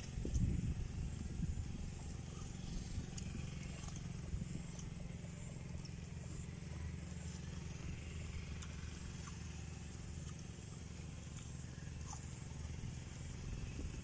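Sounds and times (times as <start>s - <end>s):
low hum: 0.0s - 14.0s
person chewing crunchy food: 0.1s - 14.0s.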